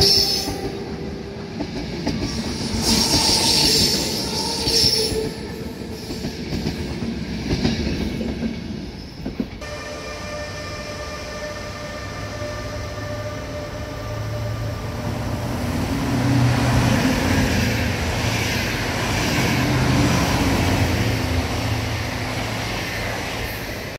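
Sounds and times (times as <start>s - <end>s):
electric locomotive whine: 0.0s - 23.9s
train wheels rumbling on rails: 0.0s - 23.9s.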